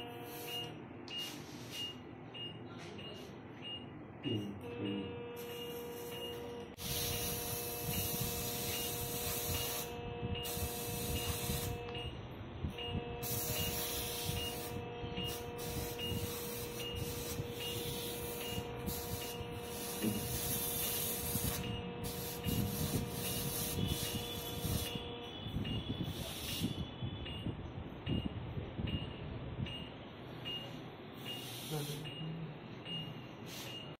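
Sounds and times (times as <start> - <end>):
patient monitor beeping: 0.0 - 33.9.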